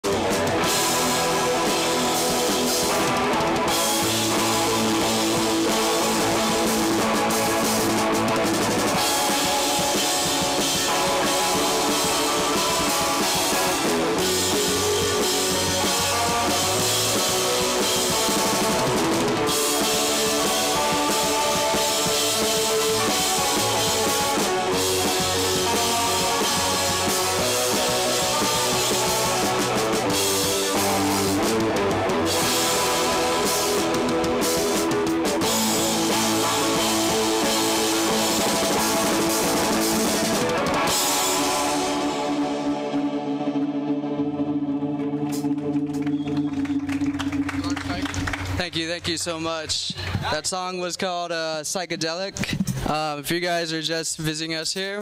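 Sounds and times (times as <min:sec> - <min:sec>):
electric guitars: 0:00.0 - 0:49.3
electric bass: 0:00.0 - 0:50.4
drum kit: 0:00.0 - 0:50.7, 0:51.7 - 0:53.5.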